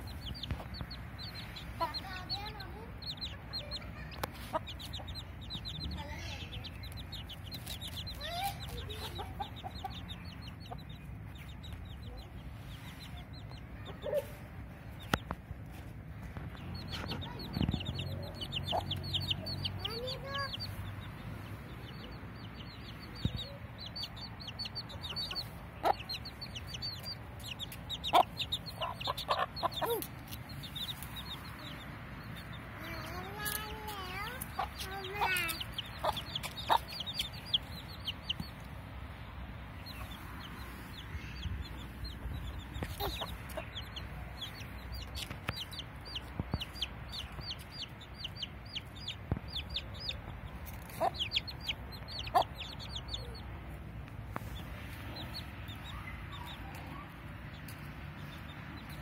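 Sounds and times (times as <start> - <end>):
hen clucking: 0.0 - 15.4, 16.5 - 39.0, 39.7 - 53.6
chicks peeping: 0.0 - 59.0.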